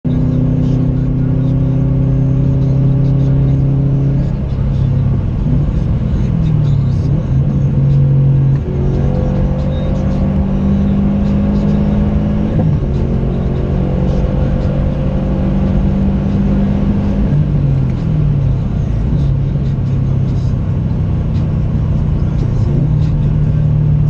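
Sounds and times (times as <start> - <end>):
car engine revving under throttle: 0.1 - 24.0.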